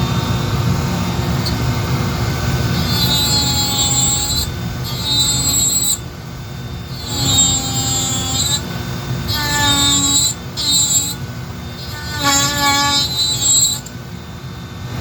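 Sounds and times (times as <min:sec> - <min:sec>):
power carving tool rasping wood: 0:00.0 - 0:14.0
tool running hum: 0:00.0 - 0:15.0.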